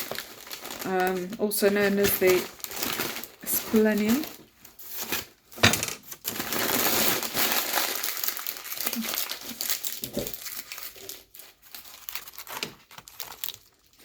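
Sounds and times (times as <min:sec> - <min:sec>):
paper crinkling and rustling: 0:00.0 - 0:14.0.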